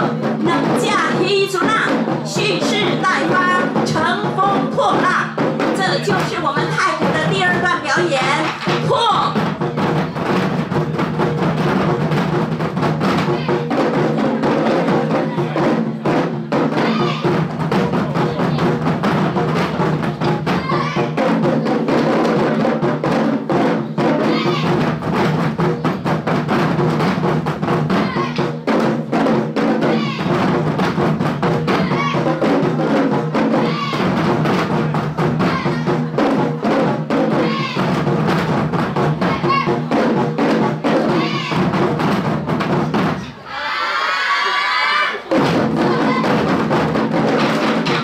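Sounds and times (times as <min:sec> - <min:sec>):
taiko drum ensemble: 0:00.0 - 0:43.4, 0:45.2 - 0:48.0.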